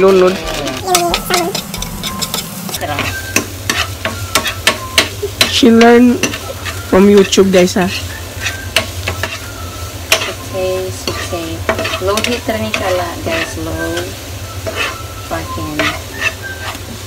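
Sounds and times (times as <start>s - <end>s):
spoon scraping frying pan: 0.0s - 9.5s, 10.1s - 10.4s, 11.0s - 15.1s, 15.7s - 16.9s
food sizzling: 0.0s - 17.0s.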